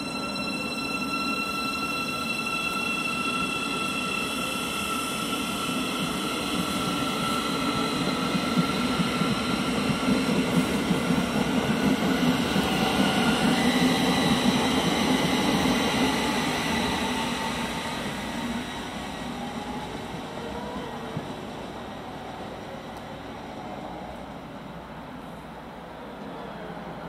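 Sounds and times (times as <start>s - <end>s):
train wheels rumbling on rail: 1.6s - 27.0s.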